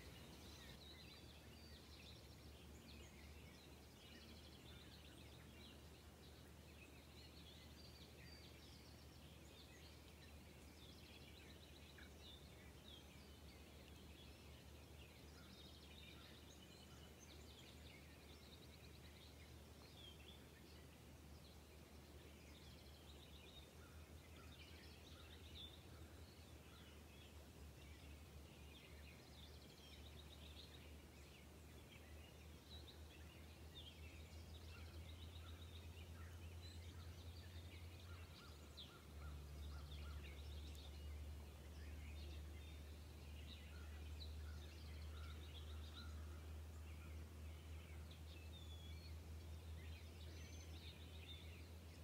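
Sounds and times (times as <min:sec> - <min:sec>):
low steady hum: 0:00.0 - 0:52.0
songbirds chirping: 0:00.0 - 0:52.0.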